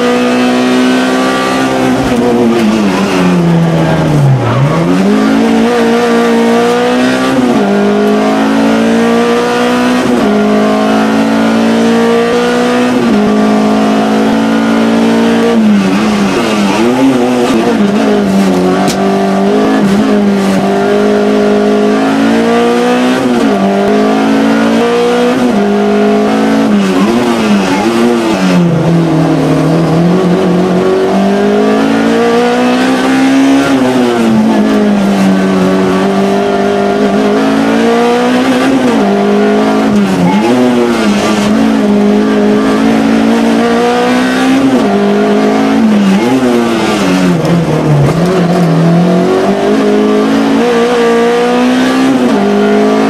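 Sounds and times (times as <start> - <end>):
rally car engine revving in cabin: 0.0 - 53.0.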